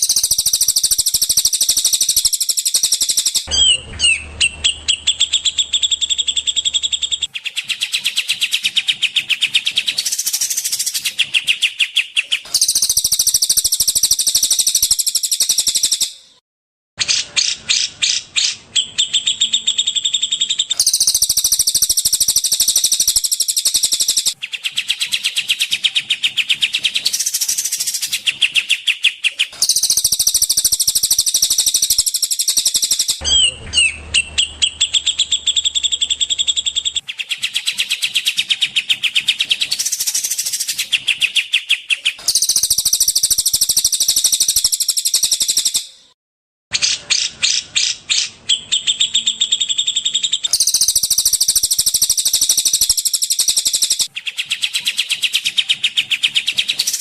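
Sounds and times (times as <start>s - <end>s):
songbird trilling: 0.0s - 16.2s, 17.0s - 46.0s, 47.1s - 57.0s.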